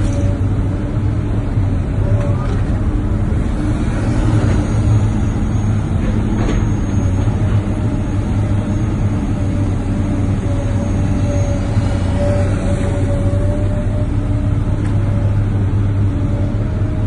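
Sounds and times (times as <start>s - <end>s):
heavy diesel engine hum: 0.0s - 17.0s.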